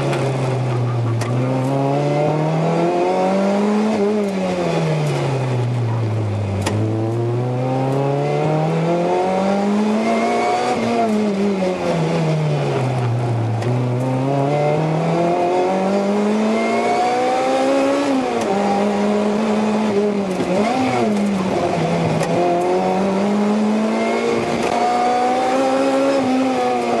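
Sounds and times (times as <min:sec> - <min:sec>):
car engine revving and shifting: 0:00.0 - 0:27.0.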